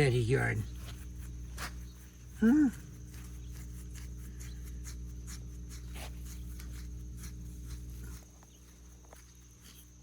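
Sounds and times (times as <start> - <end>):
pig rooting in dirt: 0.0 - 10.0.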